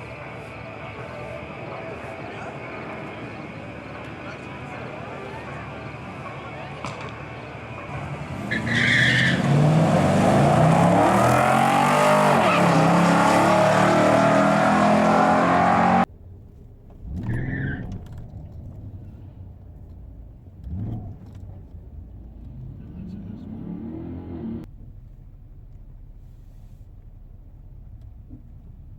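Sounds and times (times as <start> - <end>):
car engine at full throttle: 0.0 - 28.9
faint engine rising and falling: 0.0 - 28.9.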